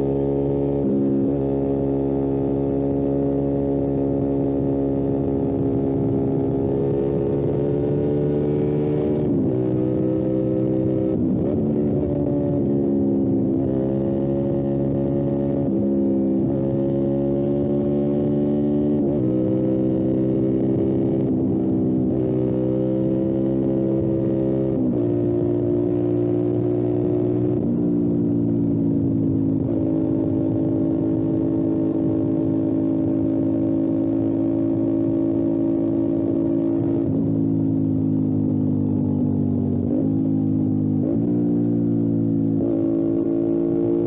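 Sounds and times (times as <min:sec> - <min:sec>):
motorcycle engine shifting gears: 0:00.0 - 0:44.0.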